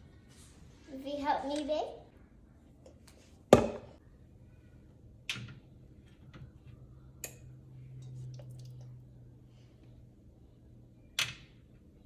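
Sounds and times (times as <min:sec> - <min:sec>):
low steady hum: 0:02.0 - 0:12.0.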